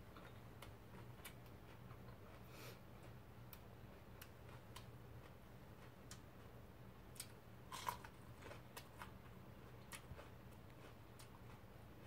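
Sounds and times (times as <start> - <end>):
person chewing chili pepper: 0.0 - 12.0.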